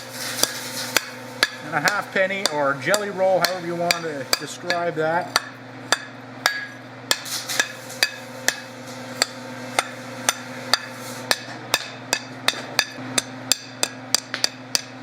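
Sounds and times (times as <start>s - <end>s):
hammer on hot steel: 0.0s - 15.0s.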